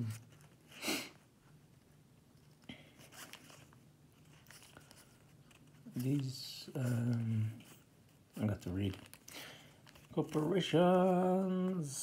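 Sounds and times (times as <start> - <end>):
soft rustles and ticks of cards: 0.0 - 12.0.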